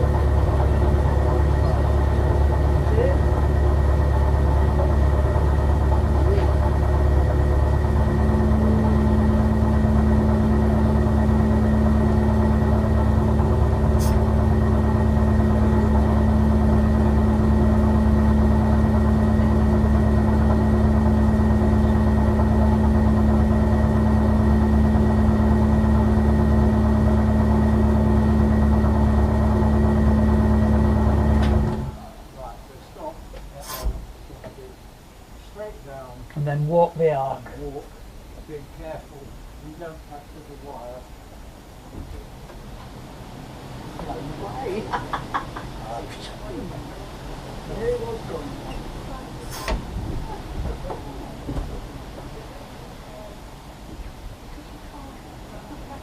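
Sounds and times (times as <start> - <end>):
air compressor humming: 0.0 - 32.6, 37.9 - 54.5.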